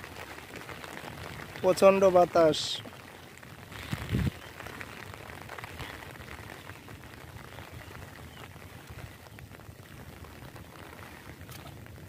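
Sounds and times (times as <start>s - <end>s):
drizzle patter: 0.0s - 12.0s
wind buffeting microphone: 0.0s - 12.0s.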